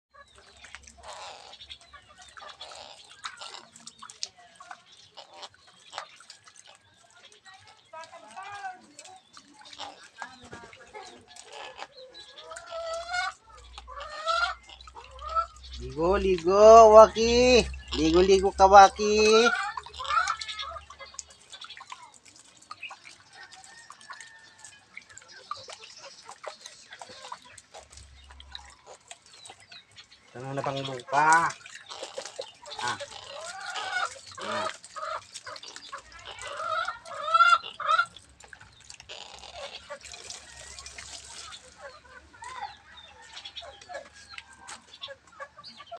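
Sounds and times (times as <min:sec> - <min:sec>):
water dripping and splashing: 0:00.2 - 0:45.9.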